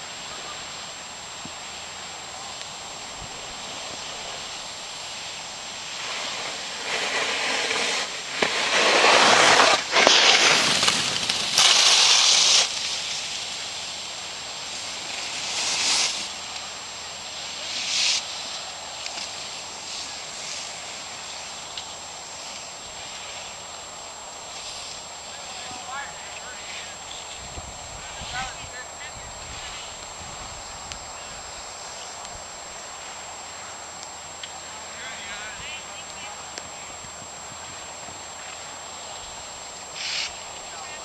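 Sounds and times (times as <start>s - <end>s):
skis scraping across snow: 1.6s - 33.8s, 34.4s - 41.0s.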